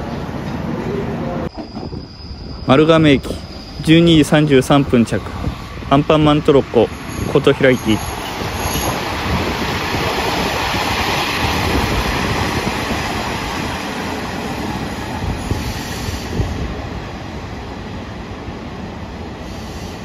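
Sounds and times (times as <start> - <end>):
diesel train passing: 0.0 - 20.0.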